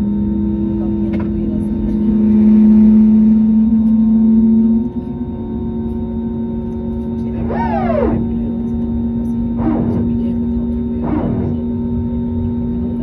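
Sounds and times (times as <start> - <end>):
airplane cabin ventilation hum: 0.0 - 13.0.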